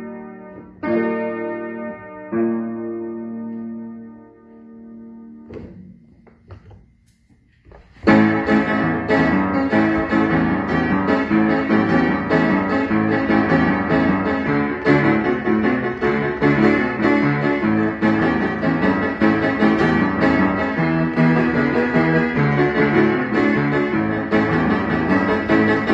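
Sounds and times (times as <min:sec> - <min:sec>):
upright piano playing: 0:00.0 - 0:06.2, 0:08.0 - 0:25.9.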